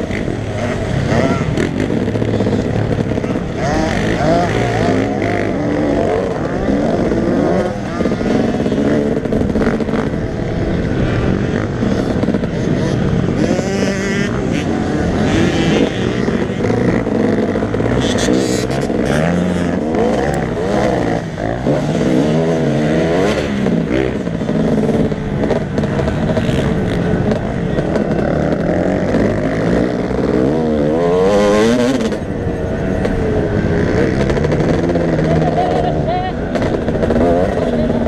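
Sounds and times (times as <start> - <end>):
motocross bike engine revving: 0.0 - 38.0.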